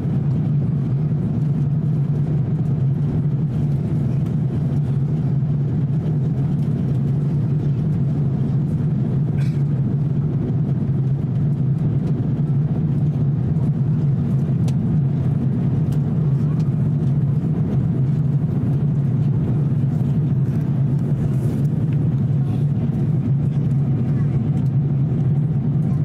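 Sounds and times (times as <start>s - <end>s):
airplane cabin drone: 0.0s - 26.0s.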